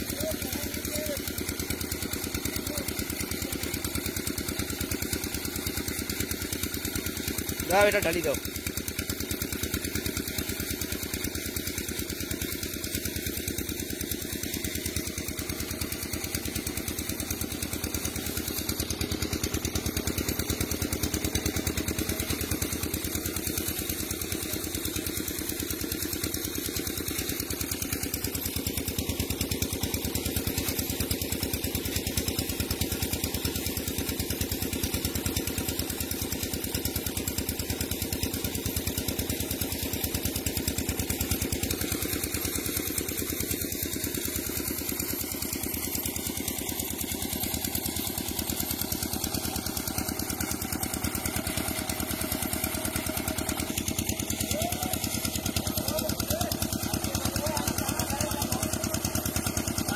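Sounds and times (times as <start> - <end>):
small engine chugging: 0.0 - 59.9.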